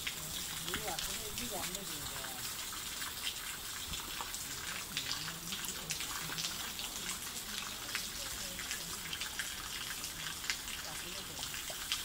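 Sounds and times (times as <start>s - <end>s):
rain falling: 0.0s - 12.0s
raindrops ticking on hard surfaces: 0.0s - 12.0s.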